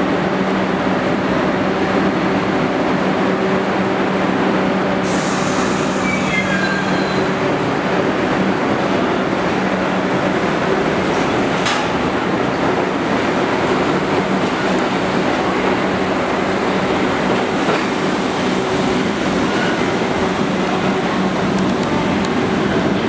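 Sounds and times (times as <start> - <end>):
subway train pulling out: 0.0 - 23.0.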